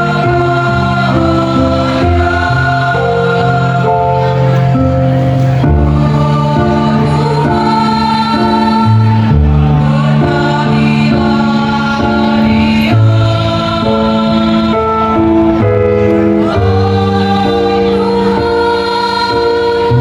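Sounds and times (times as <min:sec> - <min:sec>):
choir singing long chords: 0:00.0 - 0:20.0.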